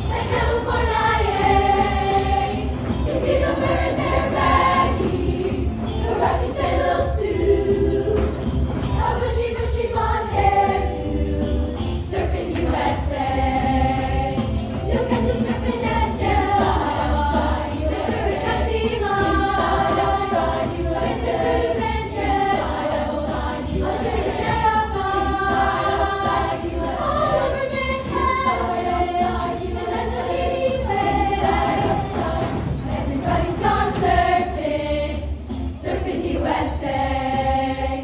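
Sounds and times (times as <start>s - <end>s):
youth choir singing: 0.0s - 38.0s.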